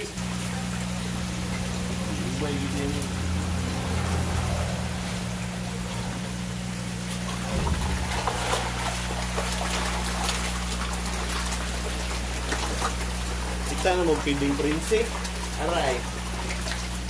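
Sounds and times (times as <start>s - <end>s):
fish splashing at water surface: 0.0s - 17.0s
low steady hum: 0.0s - 17.0s
running water: 0.0s - 17.0s.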